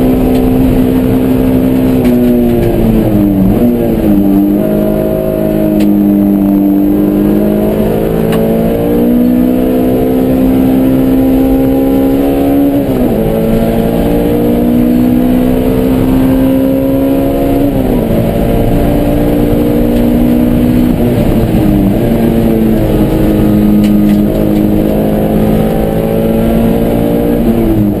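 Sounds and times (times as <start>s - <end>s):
car engine revving through gears: 0.0s - 28.0s.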